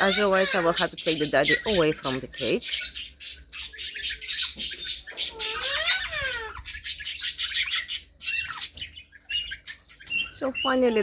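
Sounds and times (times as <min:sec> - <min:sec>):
parrots squawking and chirping: 0:00.0 - 0:11.0.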